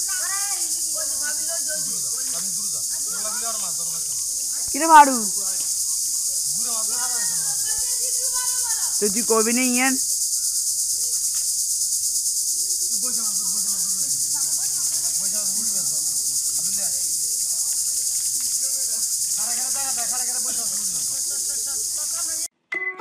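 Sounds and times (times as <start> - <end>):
high-pitched insect chorus: 0.0 - 22.5.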